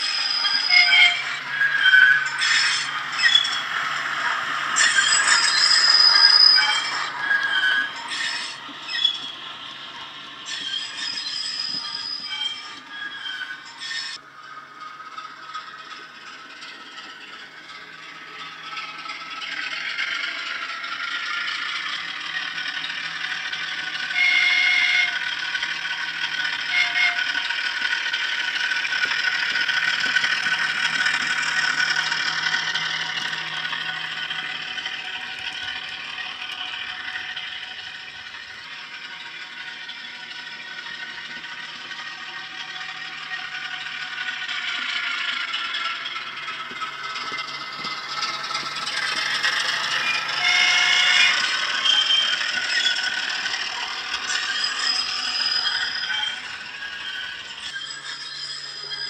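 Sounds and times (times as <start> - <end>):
diesel engine sound through small speaker: 0.0 - 59.0
model train wheels clattering: 0.0 - 59.0.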